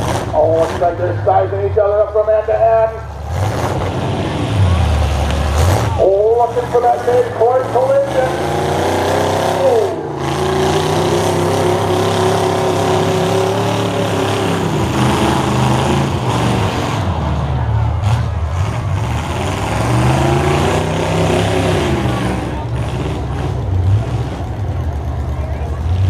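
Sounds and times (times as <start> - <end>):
truck engines revving: 0.0 - 26.0.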